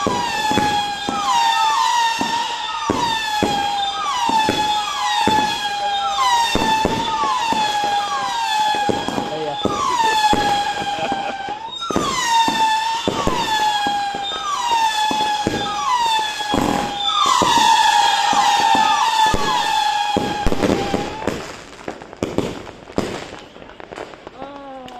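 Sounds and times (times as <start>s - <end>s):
firework cracks: 0.0s - 24.9s
firework howling whistles: 0.0s - 24.9s.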